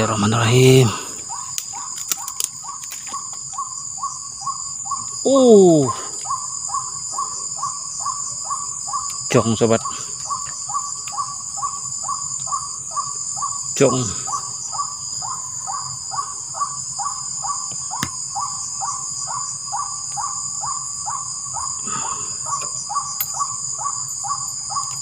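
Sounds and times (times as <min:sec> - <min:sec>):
bird croaking call: 0:00.0 - 0:25.0
night insects droning: 0:00.0 - 0:25.0.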